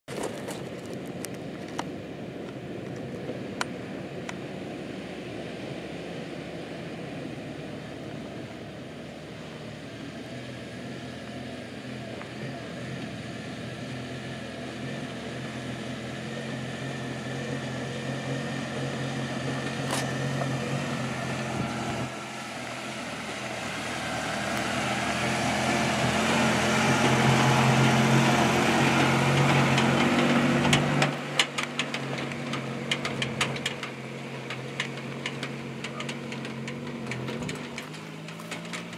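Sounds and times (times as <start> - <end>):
tires on rocky dirt track: 0.0 - 38.9
pickup truck engine running: 0.1 - 38.9.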